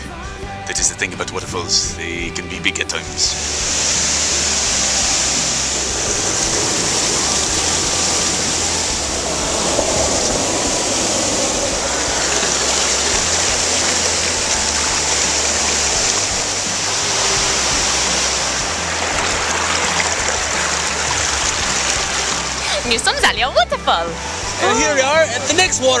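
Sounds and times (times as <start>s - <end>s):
waterfall rushing: 3.2s - 26.0s.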